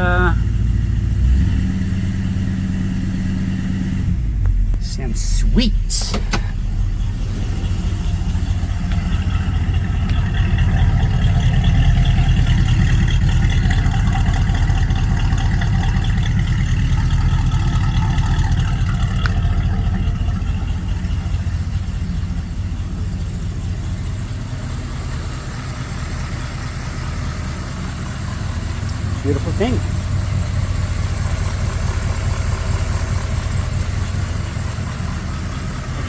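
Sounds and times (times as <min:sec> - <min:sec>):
engine idling with deep rumble: 0:00.0 - 0:36.0.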